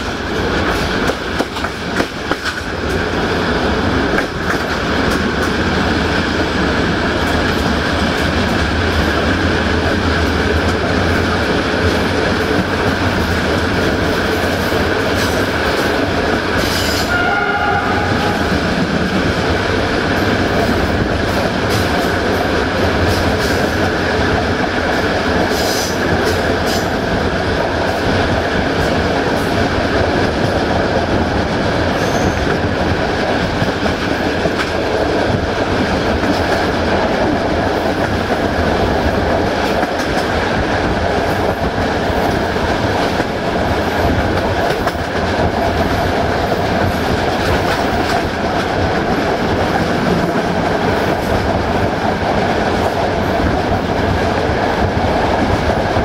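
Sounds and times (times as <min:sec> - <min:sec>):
track clatter: 0:00.0 - 0:56.0
train wheels rumbling on rail: 0:00.0 - 0:56.0.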